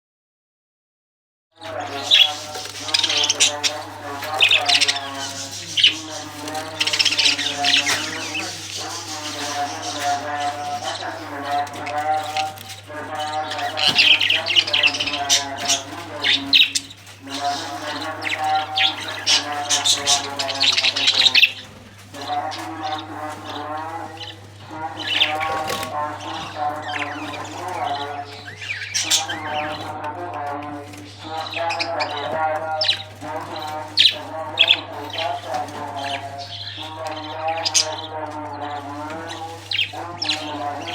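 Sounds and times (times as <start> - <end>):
parrots squawking and chirping: 1.6 - 40.9.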